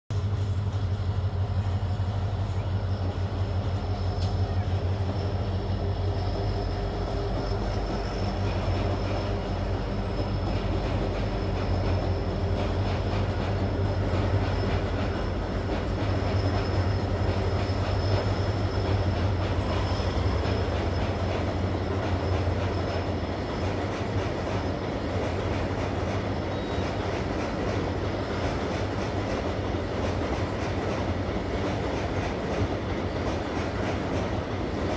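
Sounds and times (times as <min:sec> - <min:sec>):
freight train rumbling: 0:00.1 - 0:34.9
wheels clickety-clack: 0:02.6 - 0:34.9.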